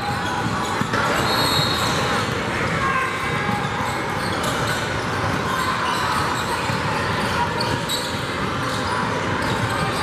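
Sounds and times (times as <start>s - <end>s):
basketball bouncing on wooden court: 0.0s - 10.0s
murmur of spectators: 0.0s - 10.0s
sneakers squeaking: 0.0s - 10.0s.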